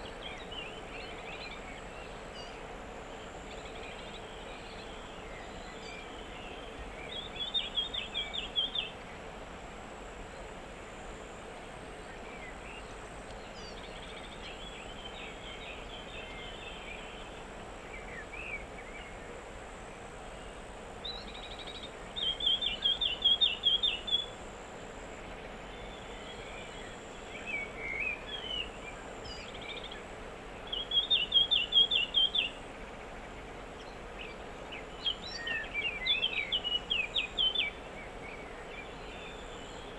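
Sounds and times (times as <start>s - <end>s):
outdoor background hiss: 0.0s - 39.9s.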